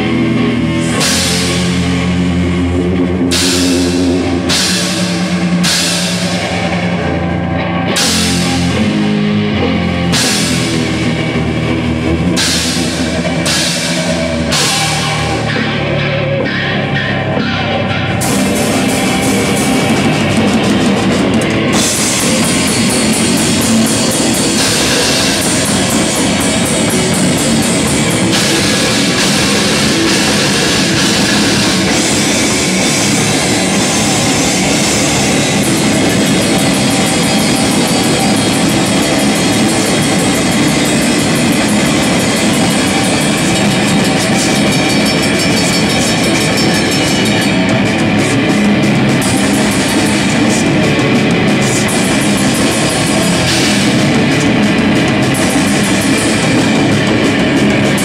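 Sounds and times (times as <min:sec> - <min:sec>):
rapid drumming with cymbals: 0:00.0 - 0:16.6, 0:18.1 - 0:58.0
distorted electric guitars: 0:00.0 - 0:58.0.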